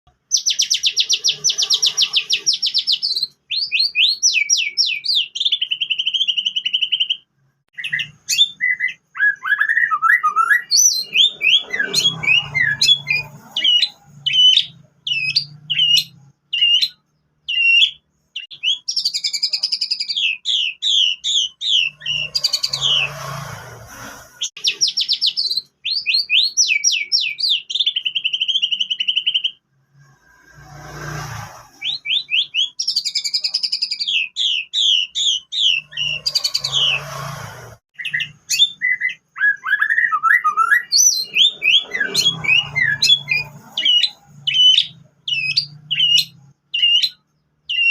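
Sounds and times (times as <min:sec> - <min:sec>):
songbird singing trills and whistles: 0:00.1 - 0:23.2, 0:24.5 - 0:29.6, 0:31.7 - 0:37.0, 0:38.0 - 0:47.9.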